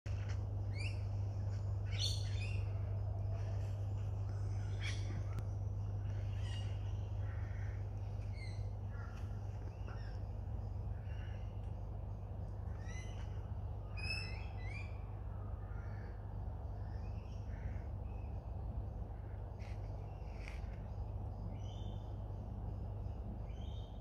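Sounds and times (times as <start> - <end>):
birds chirping: 0.1 - 24.0
steady low hum: 0.1 - 24.0.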